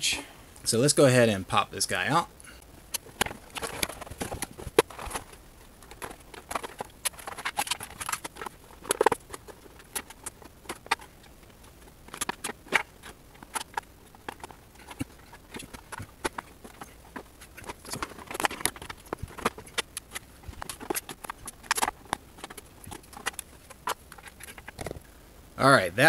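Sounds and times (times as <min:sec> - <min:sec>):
plastic tray crinkling and clicking: 0:02.9 - 0:25.0.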